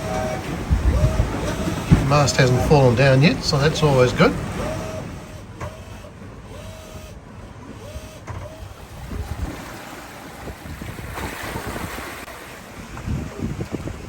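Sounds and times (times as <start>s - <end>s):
wind buffeting microphone: 0.0s - 5.6s, 7.8s - 14.0s
water rushing past hull: 0.0s - 14.0s.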